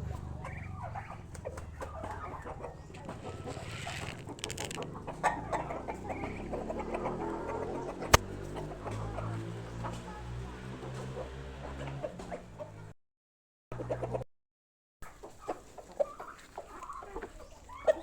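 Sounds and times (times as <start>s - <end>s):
chickens clucking: 0.0s - 12.9s, 13.8s - 14.2s, 15.0s - 18.0s.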